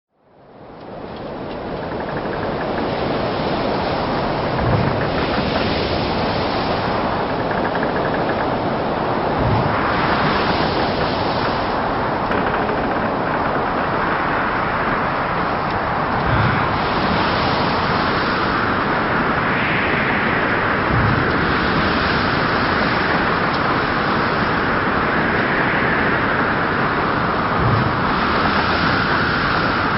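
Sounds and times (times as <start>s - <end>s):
rough waves: 0.5s - 29.9s
wind rushing: 0.9s - 29.9s
waves breaking thuds: 1.2s - 19.4s, 20.6s - 25.3s, 26.3s - 29.9s.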